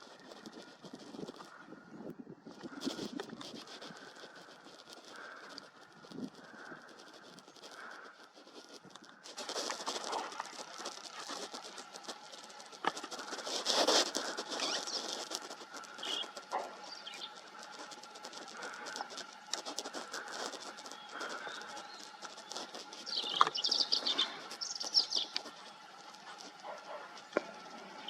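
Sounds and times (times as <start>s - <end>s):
rustling in dry leaf litter: 0.0s - 1.8s, 2.4s - 28.0s.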